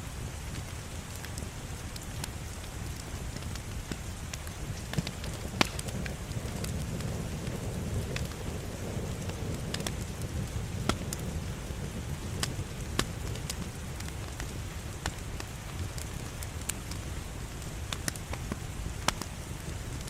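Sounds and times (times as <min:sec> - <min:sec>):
fire crackling: 0:00.0 - 0:20.0
low rumble of flame: 0:00.0 - 0:20.0
fire popping: 0:00.4 - 0:20.0.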